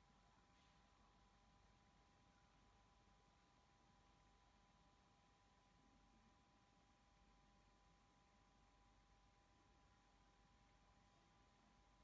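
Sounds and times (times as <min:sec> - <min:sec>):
faint high whine: 0:00.0 - 0:12.0
faint hiss: 0:00.0 - 0:12.0.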